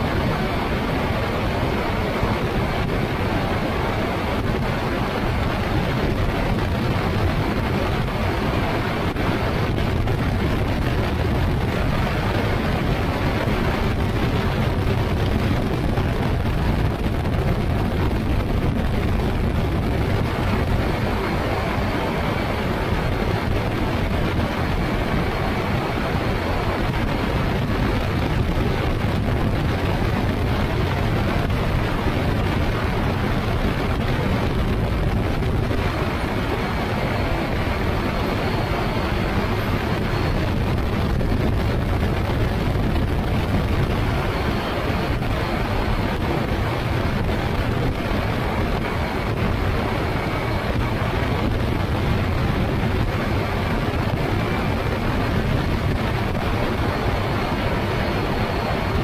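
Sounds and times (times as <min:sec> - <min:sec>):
engine and propeller running: 0:00.0 - 0:59.0
wind rushing over microphone: 0:00.0 - 0:59.0.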